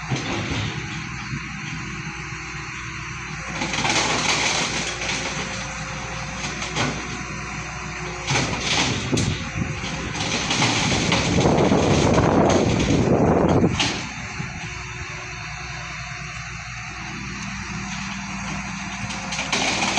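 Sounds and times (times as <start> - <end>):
heavy machine diesel engine: 0.0 - 19.9.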